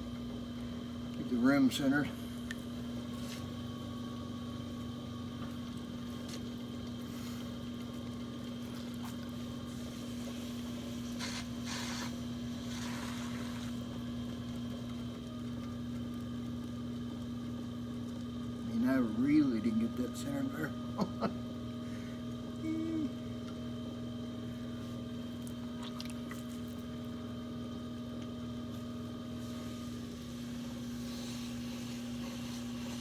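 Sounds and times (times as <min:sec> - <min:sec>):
potter's wheel humming: 0:00.0 - 0:33.0.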